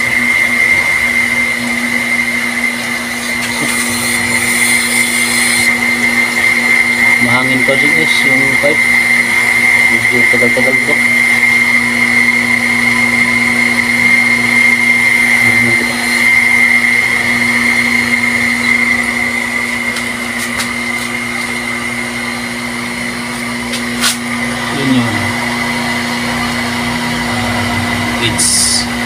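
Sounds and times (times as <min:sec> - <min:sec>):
electric water pump humming: 0:00.0 - 0:29.0.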